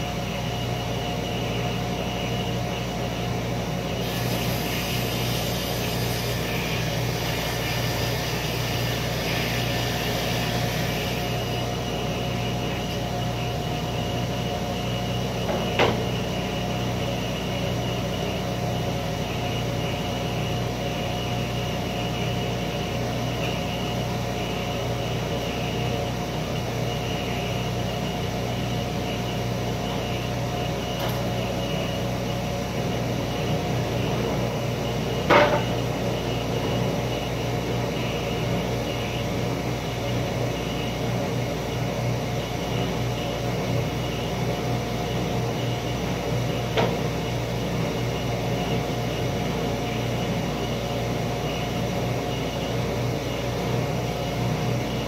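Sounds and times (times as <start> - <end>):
woodworking machinery humming: 0.0 - 55.0.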